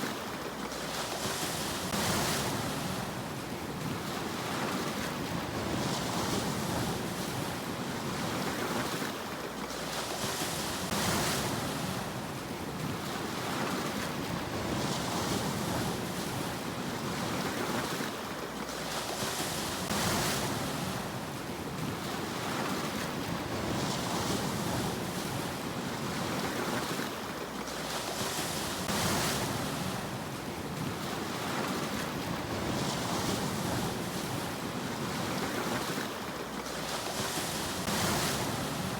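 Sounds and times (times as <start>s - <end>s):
sea waves washing ashore: 0.0s - 38.9s.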